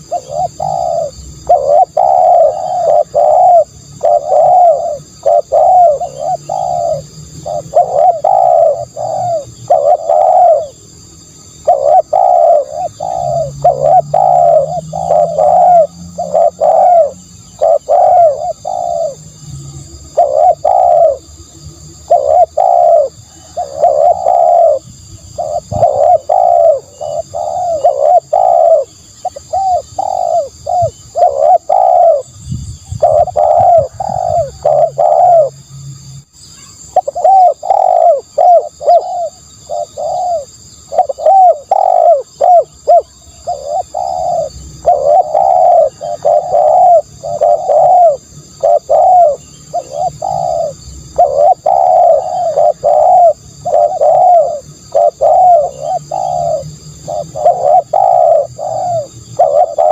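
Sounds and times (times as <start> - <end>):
dove cooing: 0.0 - 35.6, 36.6 - 59.9.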